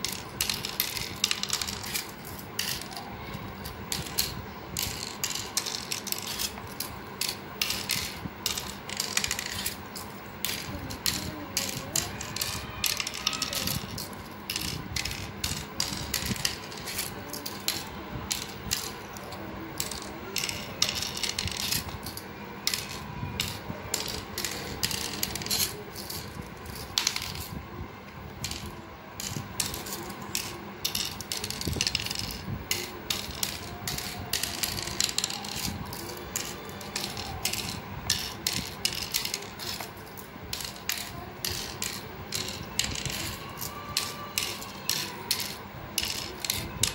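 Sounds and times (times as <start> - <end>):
shells clicking into board cups: 0.0 - 27.6, 28.3 - 46.9
shells rattling: 0.0 - 27.6, 28.4 - 46.9.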